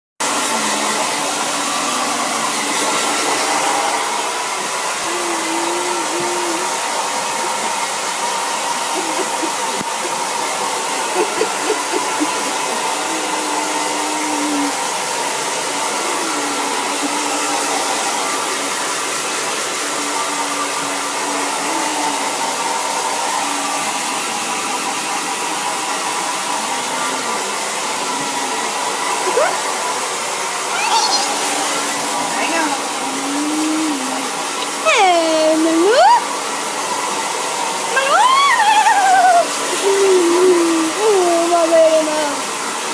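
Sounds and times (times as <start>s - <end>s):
hair dryer blowing: 0.2s - 42.9s.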